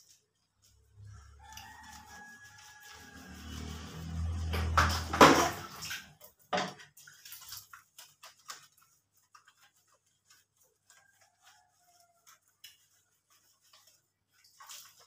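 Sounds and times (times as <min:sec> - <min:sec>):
hands rubbing wet fur: 0:00.0 - 0:15.0.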